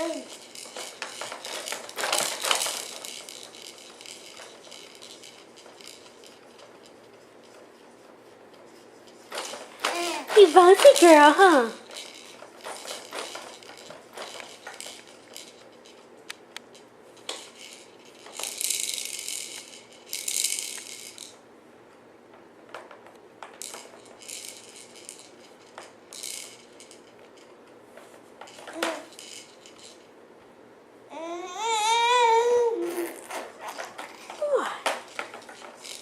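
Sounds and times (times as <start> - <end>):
plastic toys rattling and clicking: 0.0 - 21.4, 22.7 - 27.6, 28.4 - 30.1, 31.2 - 36.0
shaker-like rattling: 0.0 - 21.4, 23.6 - 30.2, 31.5 - 36.0.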